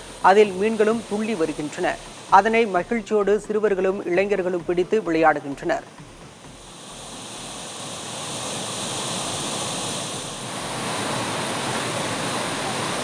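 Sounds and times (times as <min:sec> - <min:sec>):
water rushing and churning: 0:00.0 - 0:13.0.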